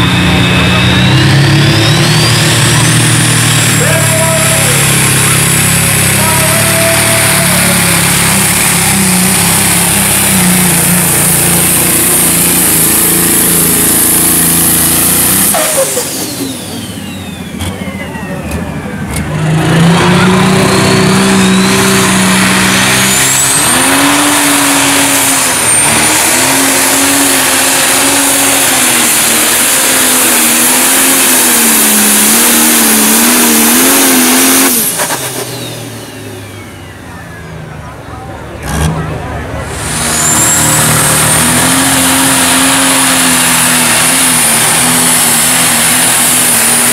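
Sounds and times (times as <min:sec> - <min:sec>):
turbo whine: 0:00.0 - 0:38.0
diesel tractor engine at full power: 0:00.0 - 0:46.9.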